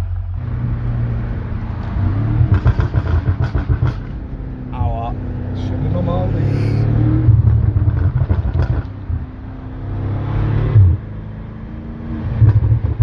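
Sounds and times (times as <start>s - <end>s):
car engine revving with exhaust pops: 0.0s - 13.0s.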